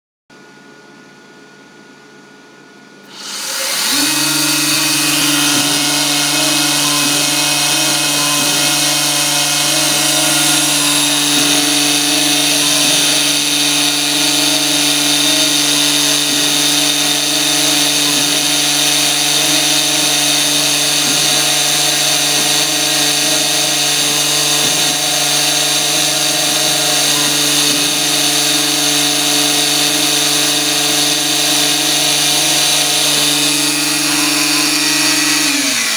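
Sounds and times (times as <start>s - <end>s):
cutter engraving metal: 3.0s - 35.9s
engraving machine spindle running: 3.1s - 35.9s.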